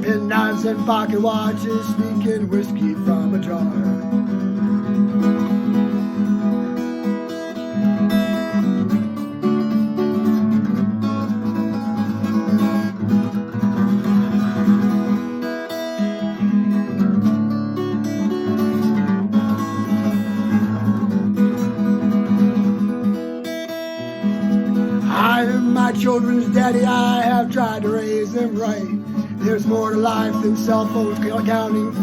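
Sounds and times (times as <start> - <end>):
acoustic guitar strummed and picked: 0.0 - 32.0.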